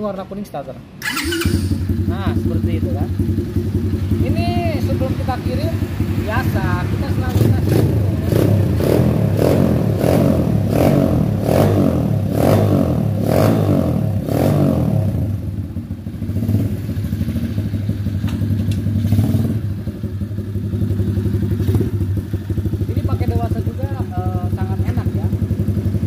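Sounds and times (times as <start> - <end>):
motorcycle engine revving and idling: 1.0 - 26.0.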